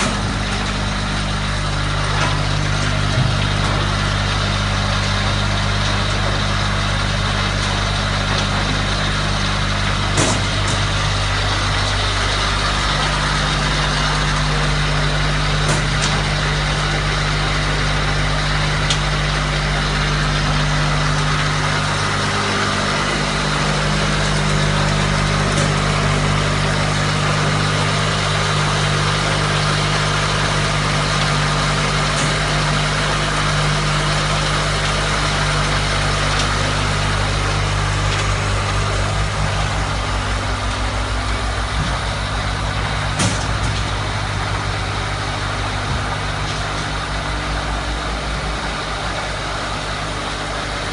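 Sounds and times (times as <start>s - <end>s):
rushing mechanical noise: 0.0s - 50.9s
thresher motor drone: 0.0s - 50.9s.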